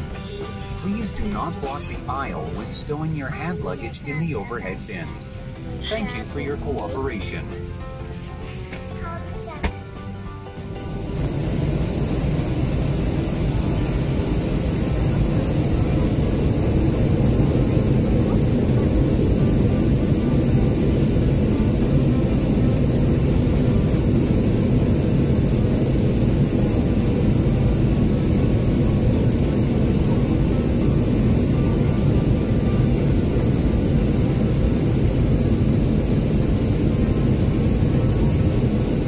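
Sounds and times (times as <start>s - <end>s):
jet airliner cabin rumble: 0.0s - 10.0s, 10.6s - 39.0s.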